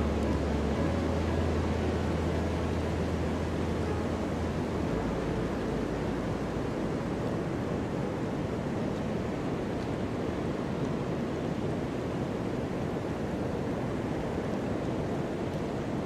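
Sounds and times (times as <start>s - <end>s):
low steady hum: 0.0s - 16.0s
ocean surf rushing: 0.0s - 16.0s.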